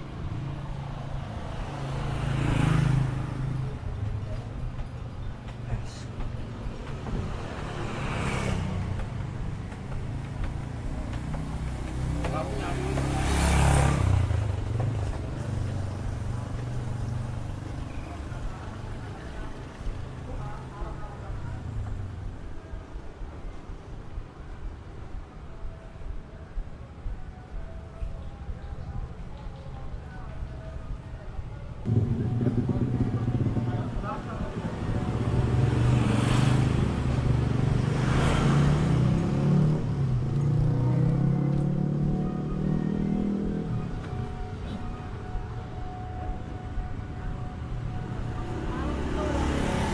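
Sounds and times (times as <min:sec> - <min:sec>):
vehicle engine passing: 0:00.1 - 0:22.0, 0:31.8 - 0:49.9.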